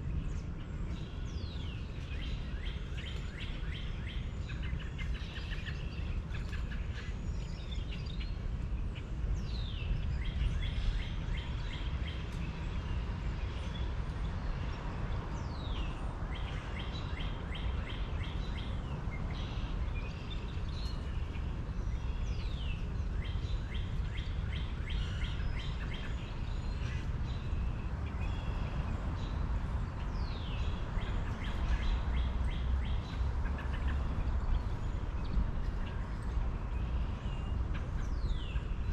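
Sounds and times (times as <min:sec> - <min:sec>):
birds chirping and trilling: 0:00.1 - 0:14.7, 0:15.4 - 0:38.9.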